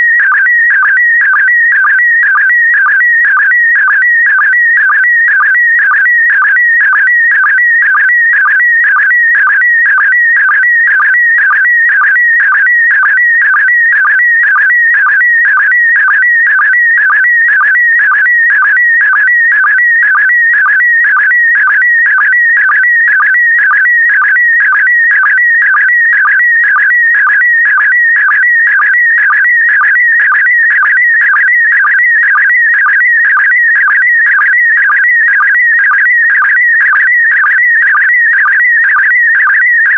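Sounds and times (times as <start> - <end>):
warbling sstv signal tone: 0.0 - 39.9.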